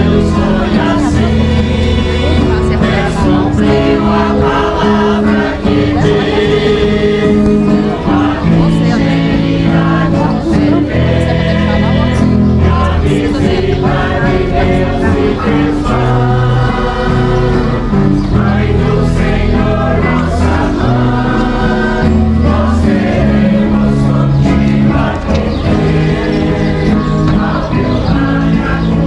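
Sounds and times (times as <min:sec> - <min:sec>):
choir singing a hymn: 0:00.0 - 0:29.0
held bass notes: 0:00.0 - 0:29.0
instrumental accompaniment: 0:00.0 - 0:29.0.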